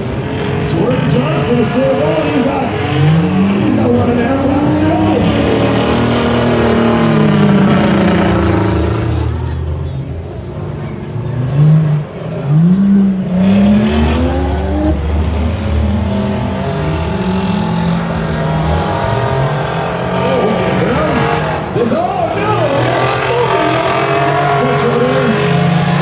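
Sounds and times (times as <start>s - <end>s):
race truck engines revving: 0.0s - 26.0s.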